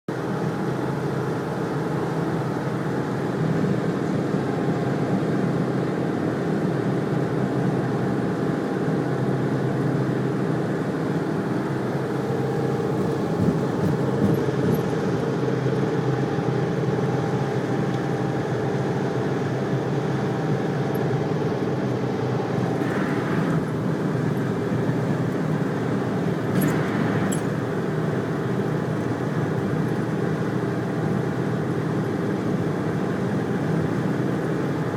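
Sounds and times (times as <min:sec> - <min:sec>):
vehicles travelling at speed: 0:00.1 - 0:34.9.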